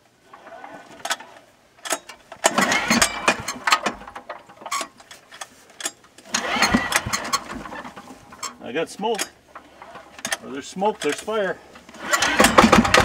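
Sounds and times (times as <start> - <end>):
diesel engine cranking: 0.0 - 13.0
pull-starter clicks: 0.3 - 13.0.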